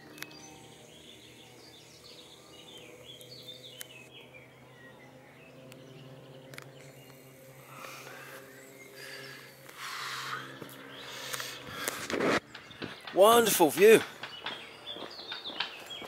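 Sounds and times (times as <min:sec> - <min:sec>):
low steady hum: 0:00.0 - 0:13.2
birds chirping: 0:00.0 - 0:16.0.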